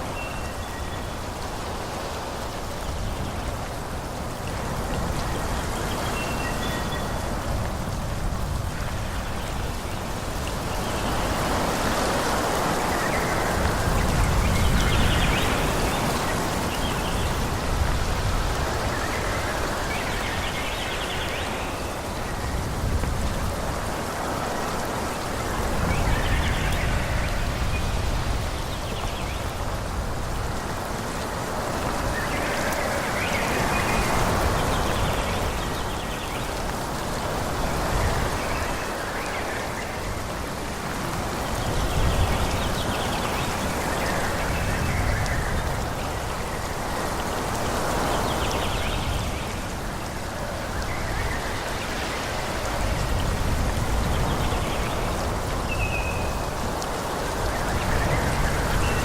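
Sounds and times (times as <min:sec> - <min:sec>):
leaves rustling: 0:00.0 - 0:59.0
wind gusting through trees: 0:00.0 - 0:59.0.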